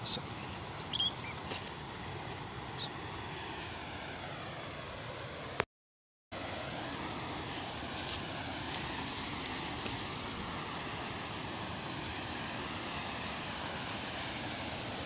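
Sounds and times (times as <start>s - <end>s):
steady rushing noise: 0.0s - 5.6s, 6.4s - 15.0s.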